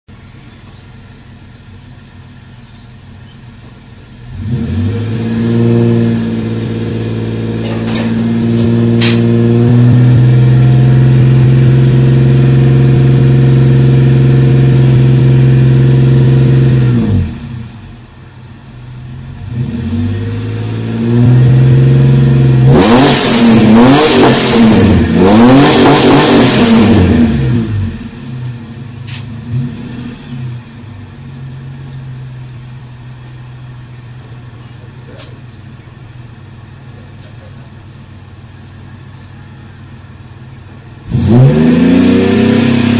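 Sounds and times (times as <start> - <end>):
car engine idling and revving: 0.1 - 42.9.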